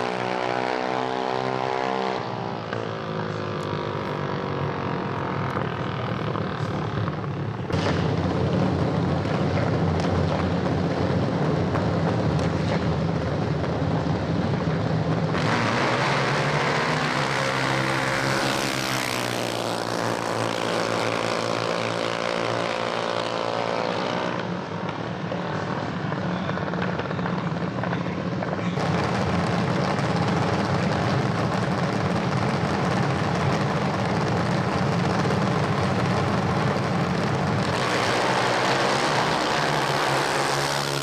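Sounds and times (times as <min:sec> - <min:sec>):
dragster engine idling and revving: 0:00.0 - 0:24.7, 0:28.4 - 0:41.0.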